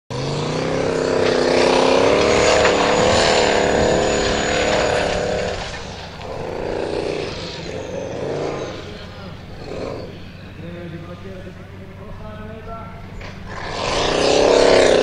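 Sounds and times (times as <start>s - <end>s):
buggy engine at high revs: 0.1s - 15.0s.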